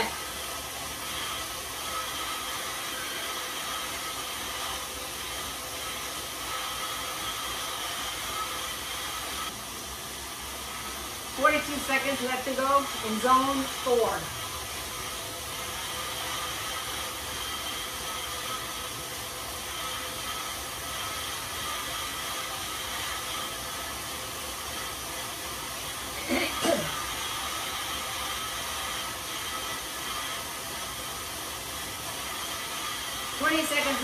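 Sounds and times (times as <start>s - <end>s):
bike tyres whirring on rollers: 0.0s - 34.0s.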